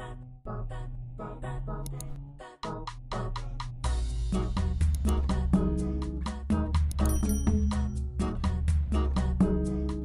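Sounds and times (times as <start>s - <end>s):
upbeat background music: 0.8s - 10.0s.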